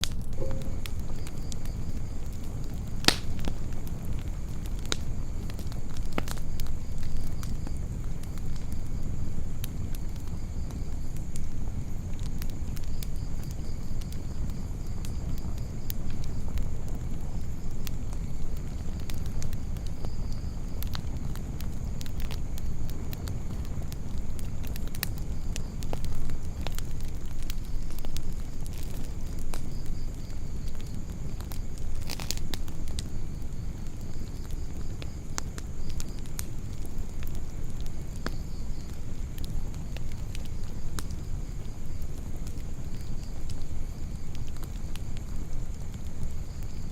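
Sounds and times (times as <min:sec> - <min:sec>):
campfire crackling and popping: 0:00.0 - 0:46.9
low rumble of flames: 0:00.0 - 0:46.9.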